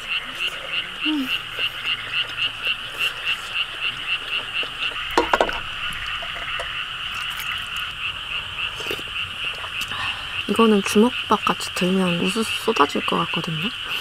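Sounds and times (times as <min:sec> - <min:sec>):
frog chorus calling: 0:00.0 - 0:14.0.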